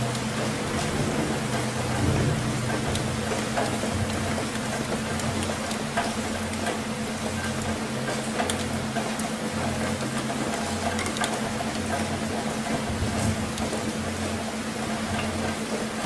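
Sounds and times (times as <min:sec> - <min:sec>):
water drips: 0:00.0 - 0:14.3
low equipment hum: 0:00.0 - 0:16.0
water splashing and trickling: 0:00.0 - 0:16.0.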